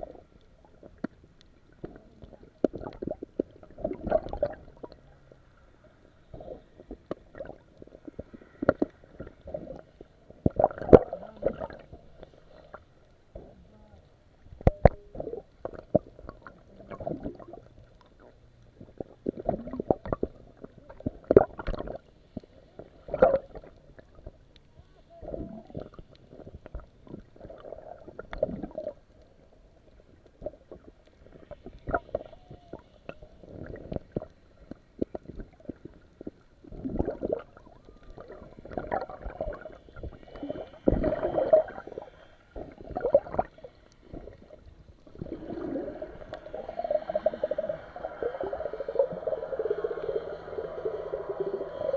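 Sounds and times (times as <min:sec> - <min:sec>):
muffled underwater gurgling: 0:00.0 - 0:51.9.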